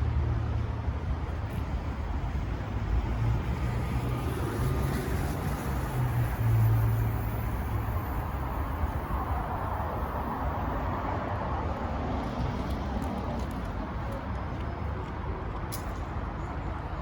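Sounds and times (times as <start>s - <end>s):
cars passing on busy road: 0.0s - 17.0s.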